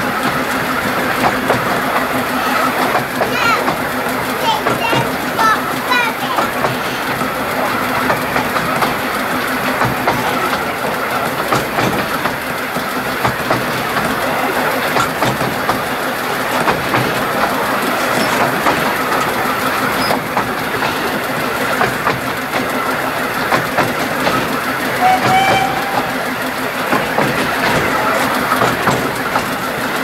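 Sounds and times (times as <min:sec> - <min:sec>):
train rumble: 0:00.0 - 0:30.0
wheels clicking over rail joints: 0:00.0 - 0:30.0.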